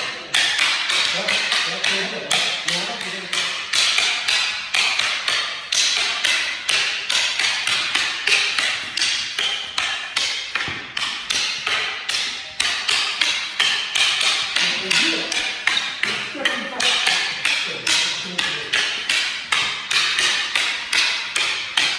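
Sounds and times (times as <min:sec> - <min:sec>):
sticks clacking together: 0:00.0 - 0:21.9.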